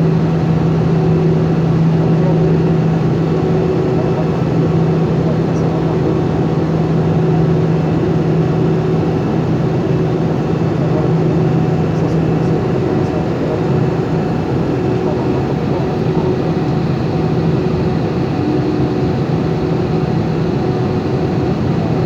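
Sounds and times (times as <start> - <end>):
constant low hum: 0.0 - 22.0
jet engines and airflow rushing: 0.0 - 22.0.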